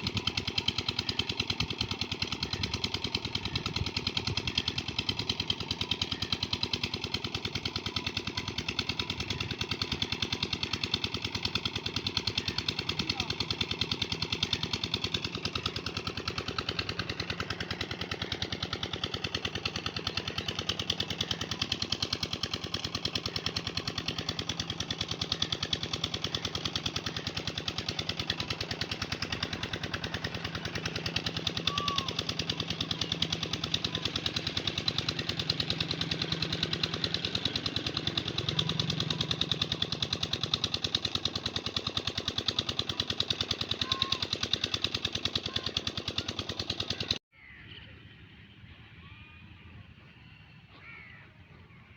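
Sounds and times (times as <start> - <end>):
small engine knocking: 0.0 - 47.2.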